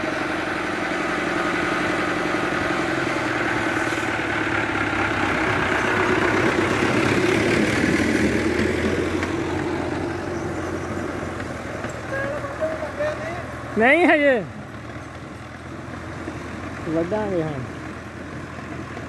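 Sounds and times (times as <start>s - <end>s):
tractor diesel engine passing: 0.0s - 19.0s.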